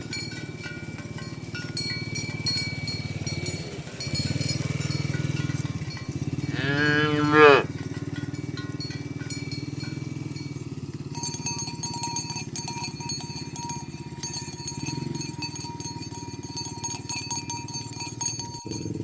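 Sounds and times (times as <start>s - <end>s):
cowbells jangling: 0.0s - 19.0s
low engine hum: 0.0s - 19.0s.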